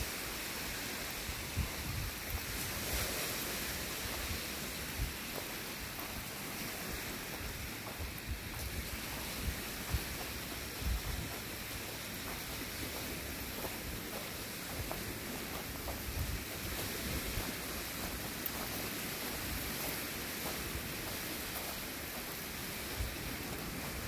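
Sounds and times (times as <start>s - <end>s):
lake waves washing onto gravel: 0.0s - 24.0s
steady wind: 0.0s - 24.0s
wind buffeting microphone: 0.0s - 24.0s.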